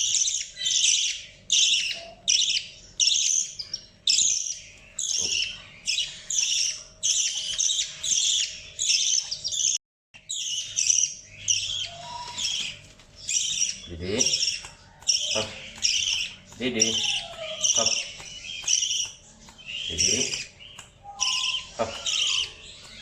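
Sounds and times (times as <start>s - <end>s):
budgerigar chirping: 0.0s - 23.0s.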